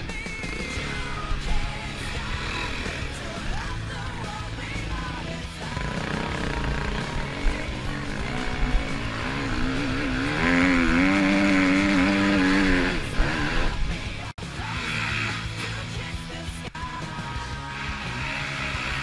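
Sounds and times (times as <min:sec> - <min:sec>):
motorcycle engine revving: 0:00.0 - 0:16.2, 0:17.3 - 0:19.0.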